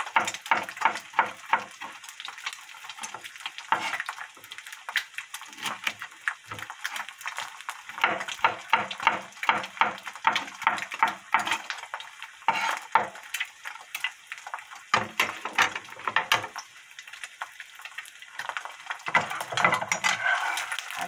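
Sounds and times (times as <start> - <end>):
egg frying in oil: 0.0 - 21.0.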